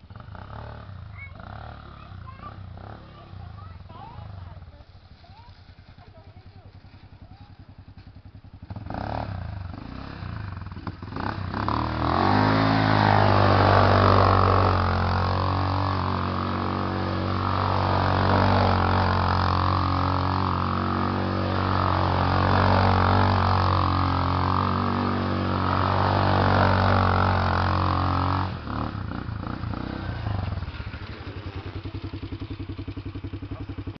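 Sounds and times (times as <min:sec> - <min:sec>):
quad bike engine idling: 0:00.0 - 0:34.0
quad bike engine revving: 0:00.0 - 0:34.0.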